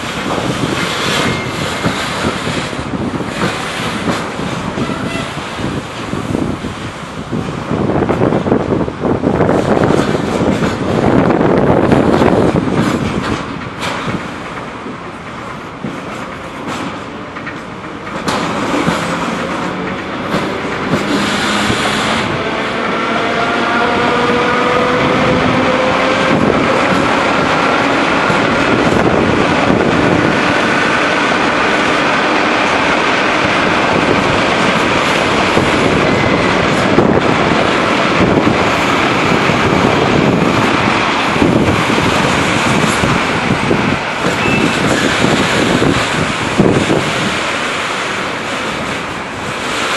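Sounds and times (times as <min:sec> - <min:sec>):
wheels clattering over rail joints: 0:00.0 - 0:07.1, 0:09.4 - 0:49.9
freight train rolling past: 0:00.0 - 0:49.9.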